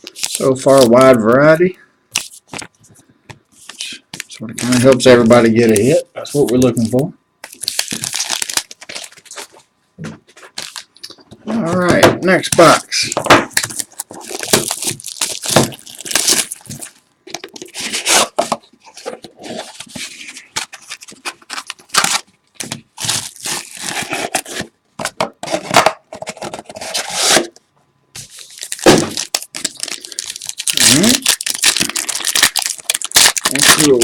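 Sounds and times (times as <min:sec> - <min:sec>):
plastic wrap tearing and crinkling: 0:00.0 - 0:01.5, 0:03.8 - 0:09.6, 0:10.4 - 0:24.7, 0:28.2 - 0:34.0.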